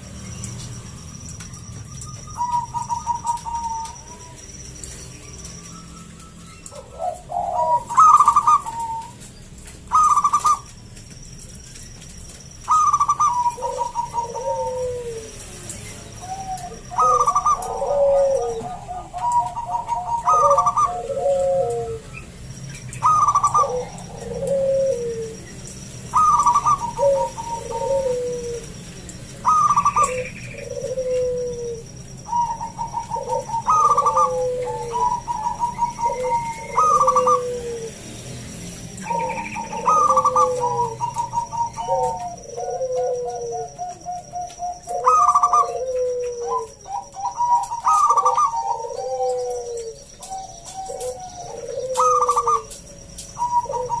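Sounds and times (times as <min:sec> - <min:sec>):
dove cooing: 0:00.0 - 0:11.1, 0:12.0 - 0:54.0.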